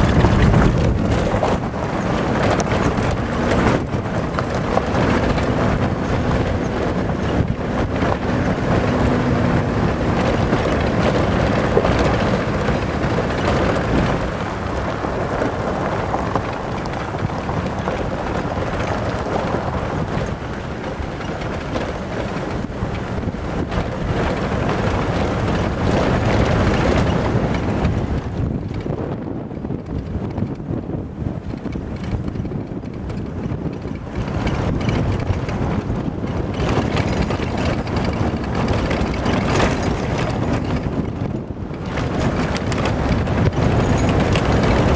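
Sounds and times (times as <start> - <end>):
tyres rumbling on gravel: 0.0 - 44.9
wind noise on microphone: 0.0 - 44.9.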